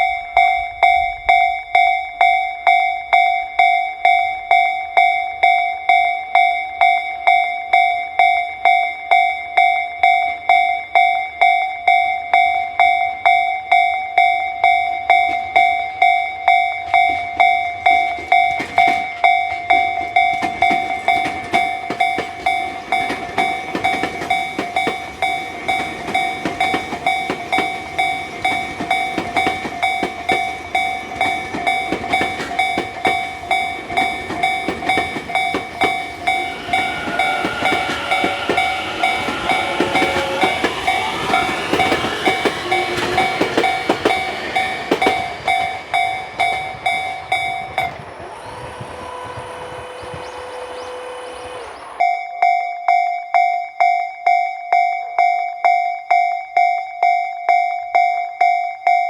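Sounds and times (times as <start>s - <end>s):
train rumbling over crossing: 0.0s - 52.6s
level-crossing bell ringing: 0.0s - 59.0s.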